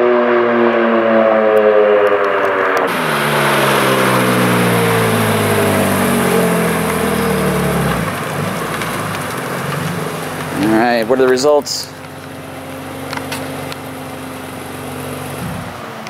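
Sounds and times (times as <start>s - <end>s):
car engine revs falling: 0.9s - 16.0s.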